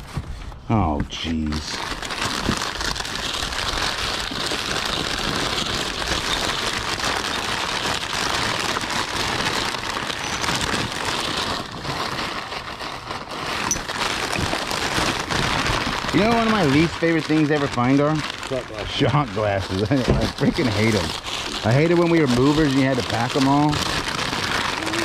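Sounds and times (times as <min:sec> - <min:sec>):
packing paper rustling: 0:00.0 - 0:25.0.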